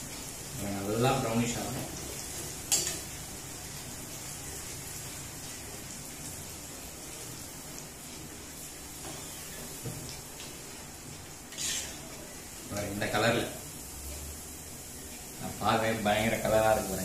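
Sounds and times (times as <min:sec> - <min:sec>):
bread deep-frying in hot oil: 0:00.0 - 0:17.0.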